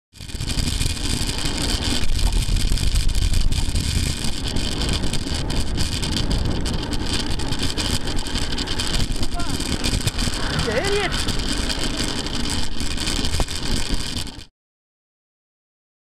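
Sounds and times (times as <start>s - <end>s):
wind rushing over microphone: 0.2s - 14.4s
road noise: 0.2s - 14.5s.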